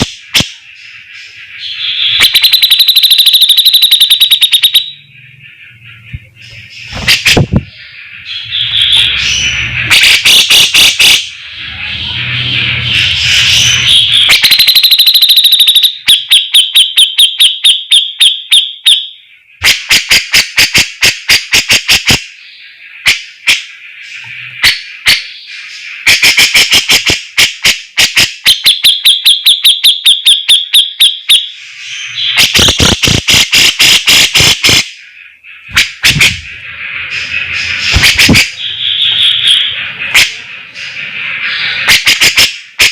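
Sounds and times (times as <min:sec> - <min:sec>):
bulbul singing: 0:00.0 - 0:42.8.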